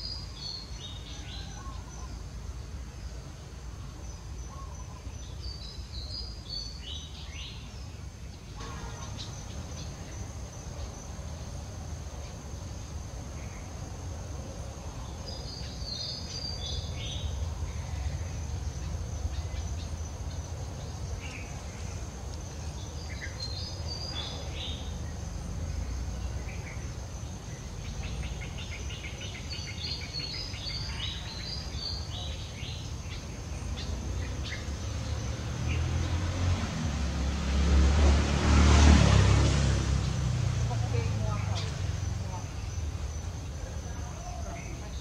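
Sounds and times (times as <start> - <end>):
small birds chirping: 0.0 - 37.4, 39.9 - 45.0
high insect drone: 5.9 - 45.0.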